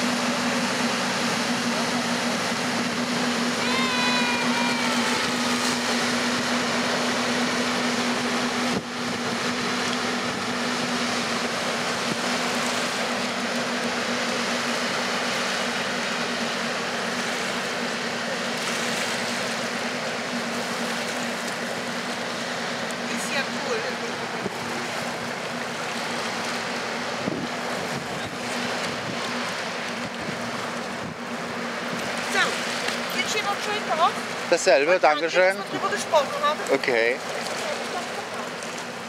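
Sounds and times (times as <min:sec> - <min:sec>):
paddle wheels churning water: 0:00.0 - 0:39.0
ship machinery drone: 0:00.0 - 0:39.0.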